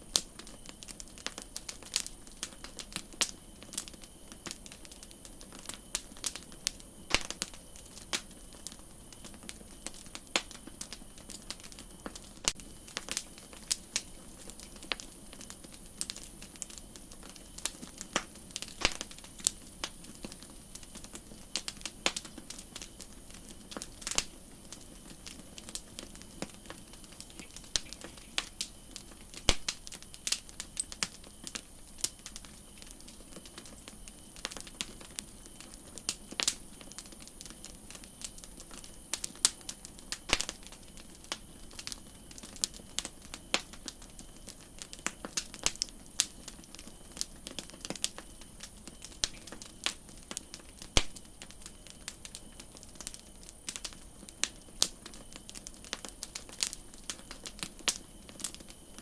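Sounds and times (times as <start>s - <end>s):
campfire crackling and popping: 0.0s - 59.0s
faint steady hiss: 0.0s - 59.0s.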